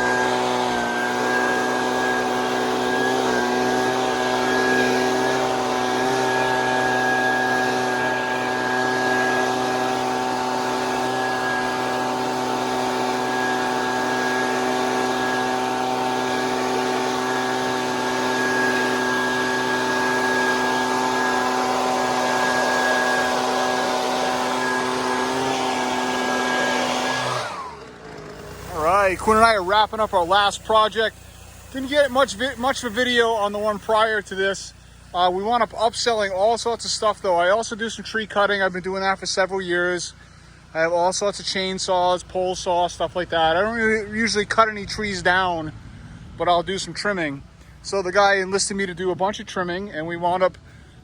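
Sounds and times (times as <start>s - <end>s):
pressure washer motor hum: 0.0s - 51.0s.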